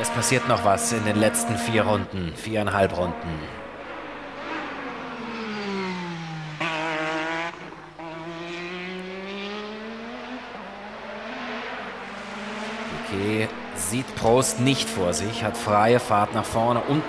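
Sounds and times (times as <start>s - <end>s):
racing car engine: 0.0s - 17.0s.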